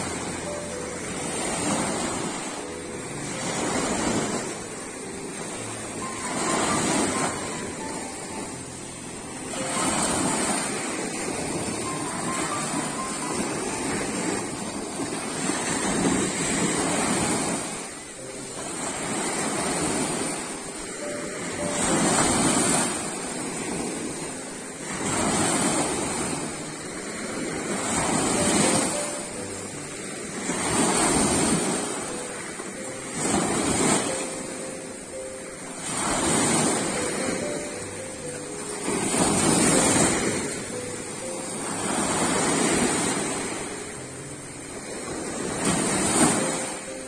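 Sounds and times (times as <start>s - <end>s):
small waves breaking on beach: 0.0s - 47.0s.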